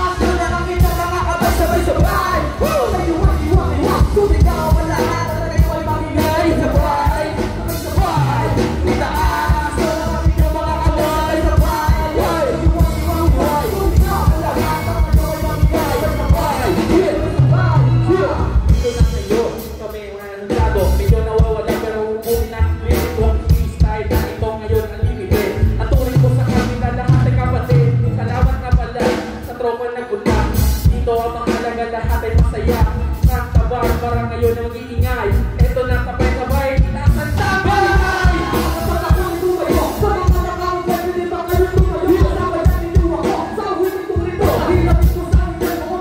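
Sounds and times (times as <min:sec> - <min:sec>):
drums: 0:00.0 - 0:46.0
electric bass: 0:00.0 - 0:46.0
live rock band playing: 0:00.0 - 0:46.0
person singing: 0:00.0 - 0:46.0.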